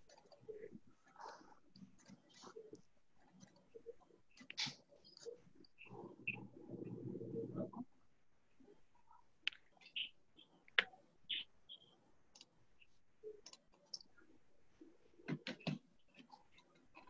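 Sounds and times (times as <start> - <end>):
faint clicks and ticks: 0.0 - 17.0.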